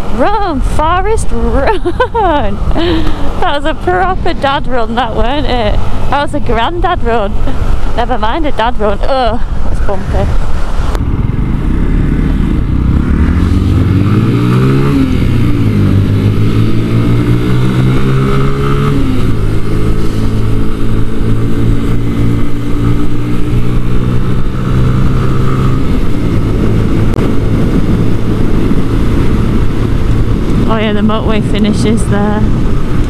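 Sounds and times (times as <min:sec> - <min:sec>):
motorcycle engine accelerating: 0:00.0 - 0:33.0
road and wind noise: 0:00.0 - 0:33.0.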